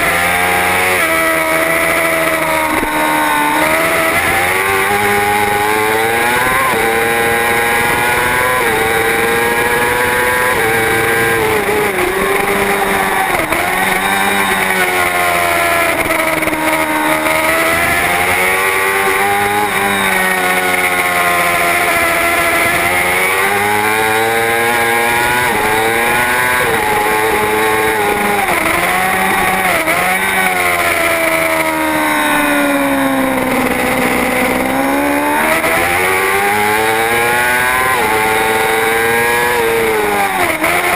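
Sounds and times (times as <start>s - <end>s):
motorcycle engine at full throttle: 0.0s - 40.9s.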